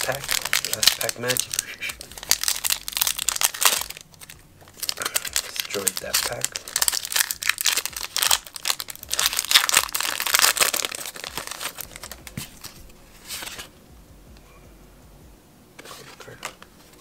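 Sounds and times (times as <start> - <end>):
foil wrapper crinkling: 0.0 - 13.7.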